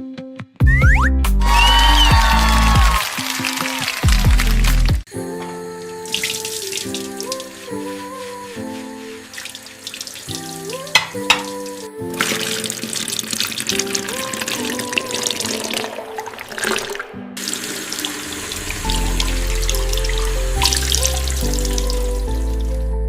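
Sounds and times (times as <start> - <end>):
background music with held notes: 0.0 - 23.0.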